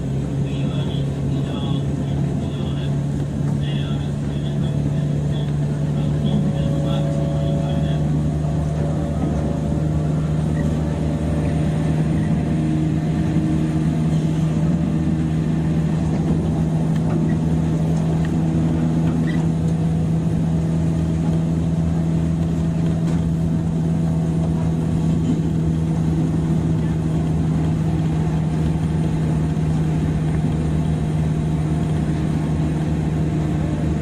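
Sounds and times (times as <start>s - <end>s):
train motor humming: 0.0s - 34.0s
wheel and track noise: 0.0s - 34.0s.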